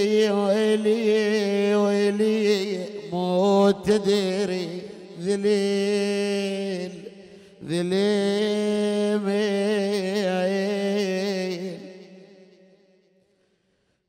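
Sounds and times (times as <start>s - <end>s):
man chanting a lament: 0.0s - 12.8s.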